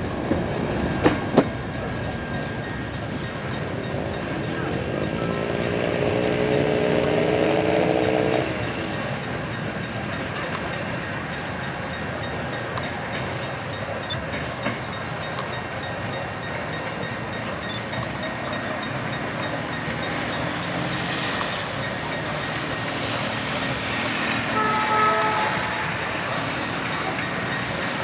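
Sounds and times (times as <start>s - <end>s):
faint high ticking: 0.0s - 28.0s
freight wagons rumbling on rails: 0.0s - 28.0s.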